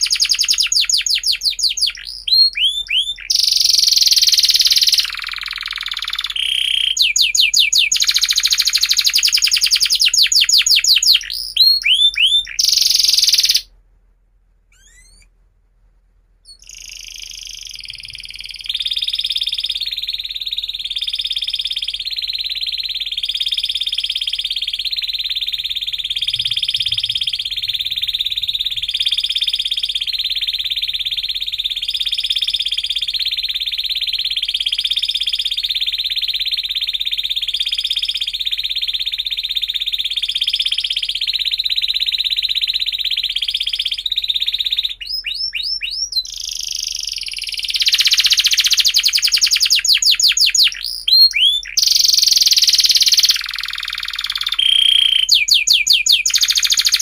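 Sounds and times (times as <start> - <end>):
canary trilling: 0.0 - 13.7, 14.7 - 15.3, 16.4 - 57.0.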